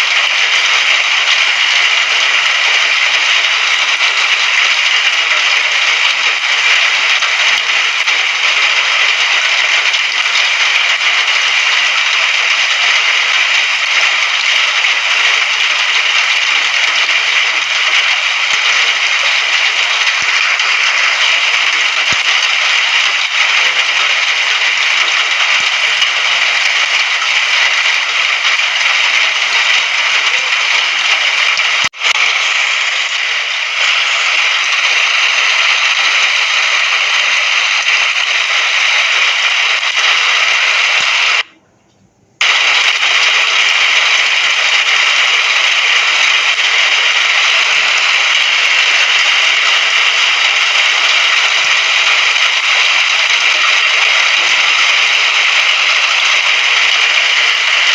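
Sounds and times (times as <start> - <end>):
heavy rain: 0.0 - 41.5, 42.4 - 57.9.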